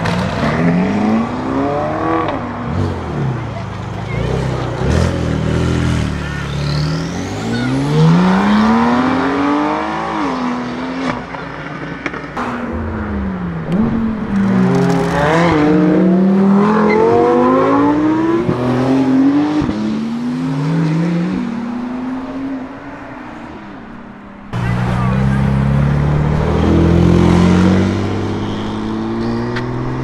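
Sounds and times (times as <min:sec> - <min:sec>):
sports cars accelerating hard: 0:00.0 - 0:30.0.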